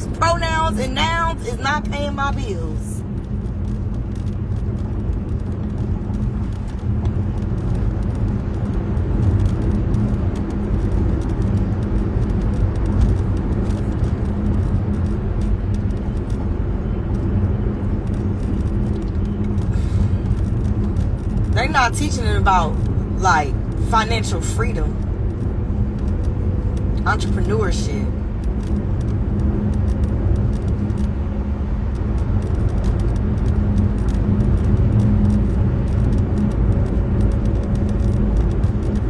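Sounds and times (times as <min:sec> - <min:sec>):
faint steady hum: 0:00.0 - 0:39.0
vehicle rumble in motion: 0:00.0 - 0:39.0.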